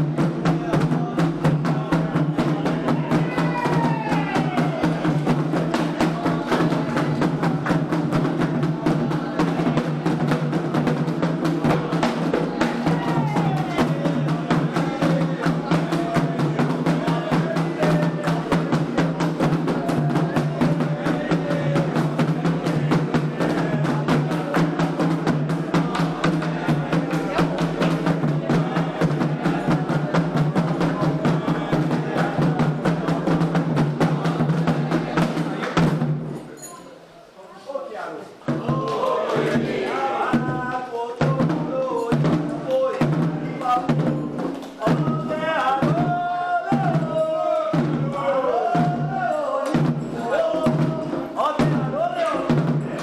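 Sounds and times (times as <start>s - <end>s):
sung chant: 0.0s - 36.0s, 38.4s - 53.0s
voices singing: 0.0s - 36.1s, 38.0s - 53.0s
rapid driving drumming: 0.0s - 36.4s, 38.4s - 53.0s.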